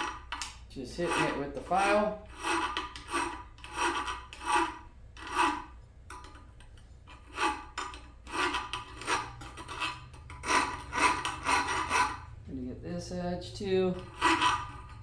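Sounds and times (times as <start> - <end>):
file rasping on steel: 0.0 - 5.8, 7.1 - 12.4, 13.9 - 15.0.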